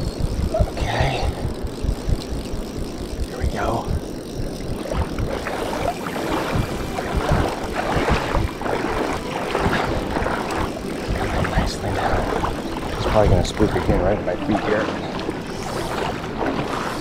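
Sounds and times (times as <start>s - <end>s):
fishing reel reeling: 0.0s - 17.0s
water splashing: 0.0s - 17.0s
wind buffeting microphone: 0.0s - 17.0s.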